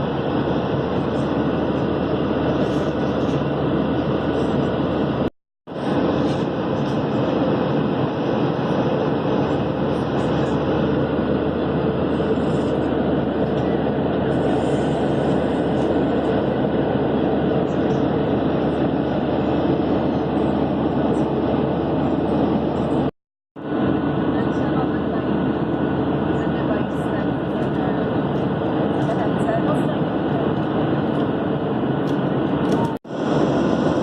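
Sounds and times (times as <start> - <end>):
airliner cabin roar: 0.0 - 34.0.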